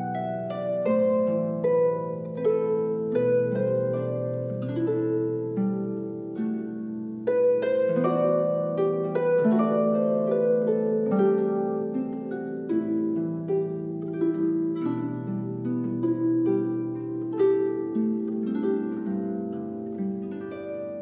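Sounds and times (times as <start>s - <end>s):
slow plucked instrumental music: 0.0s - 21.0s.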